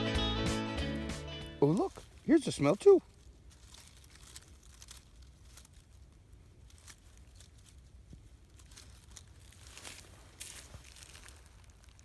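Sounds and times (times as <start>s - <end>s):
rustles in ground cover: 1.6s - 12.0s.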